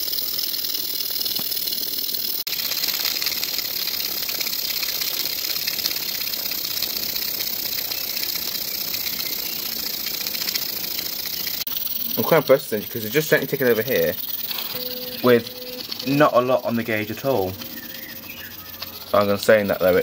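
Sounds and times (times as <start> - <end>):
steam hiss: 0.0 - 17.6
steam engine exhaust beats: 0.0 - 20.0.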